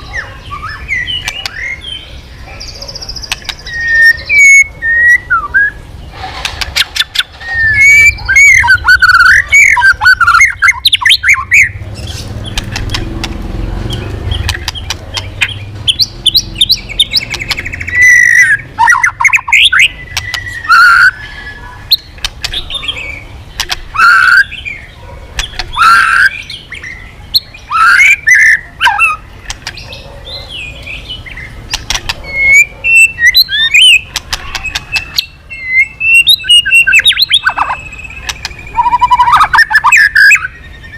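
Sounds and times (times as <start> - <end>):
bird singing whistles and clicks: 0.5 - 1.9, 3.0 - 5.8, 6.6 - 11.7, 12.4 - 21.2, 21.9 - 24.6, 25.4 - 29.9, 31.7 - 40.9.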